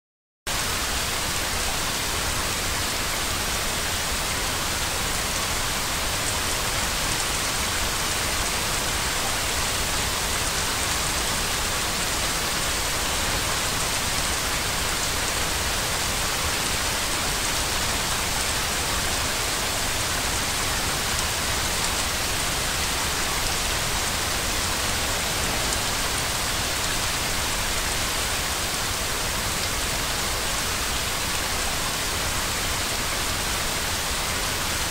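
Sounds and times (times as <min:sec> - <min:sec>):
white noise hiss: 0:00.5 - 0:34.9.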